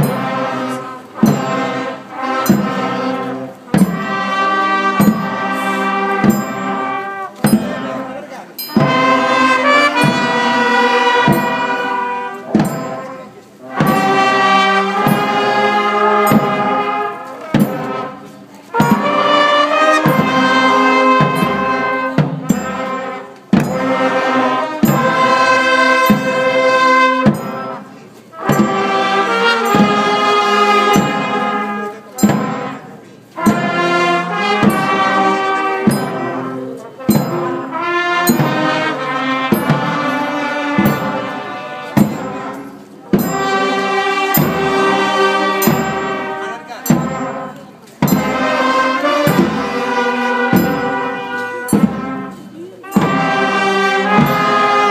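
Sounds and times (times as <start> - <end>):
brass band playing chords: 0.0 - 54.9.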